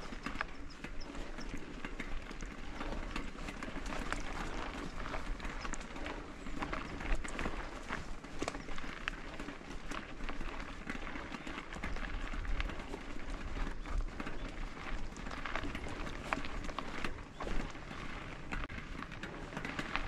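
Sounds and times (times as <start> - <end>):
bike clicks and rattles: 0.0 - 20.0
tyres crunching on gravel: 0.0 - 20.0.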